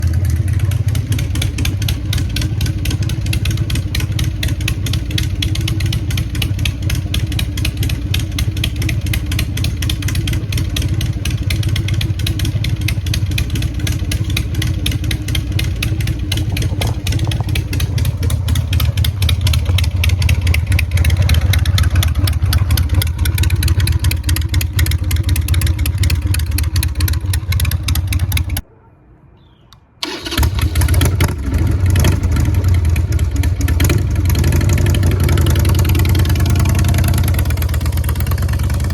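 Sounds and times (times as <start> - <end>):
motorcycle engine rumbling: 0.0 - 28.6, 29.6 - 38.9.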